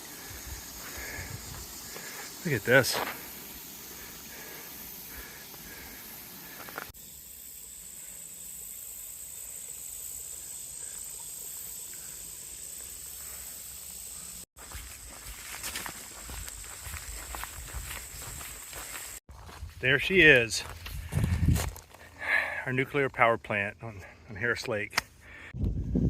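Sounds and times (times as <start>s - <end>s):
insects droning: 0.0s - 25.8s.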